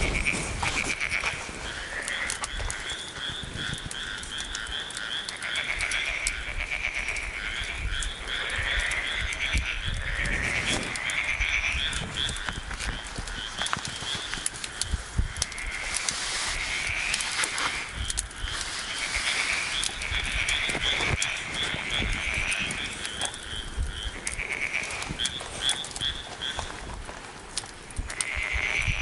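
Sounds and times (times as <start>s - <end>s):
frogs croaking: 0.0s - 27.0s, 27.6s - 29.0s
faint clicks: 1.9s - 26.6s.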